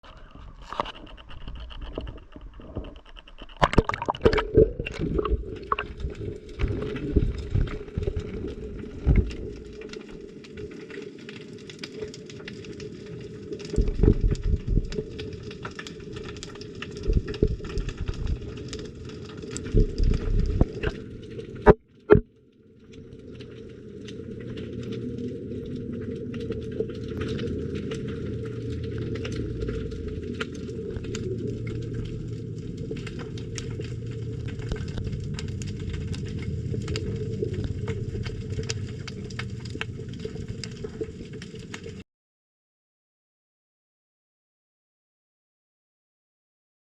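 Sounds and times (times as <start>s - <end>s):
muffled underwater rumble: 0.0s - 42.0s
sharp clicks and crackles: 0.0s - 42.0s.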